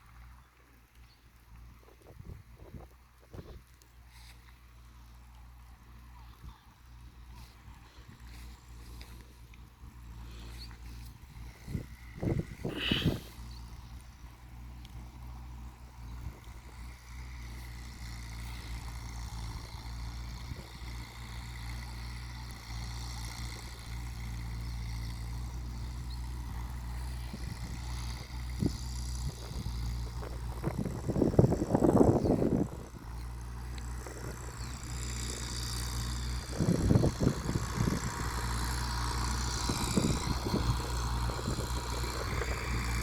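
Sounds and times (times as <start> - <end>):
tractor engine droning: 0.0 - 43.0.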